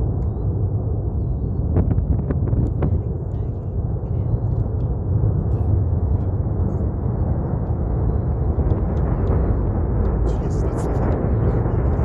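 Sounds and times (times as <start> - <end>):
distant rocket engine rumble: 0.0 - 12.0.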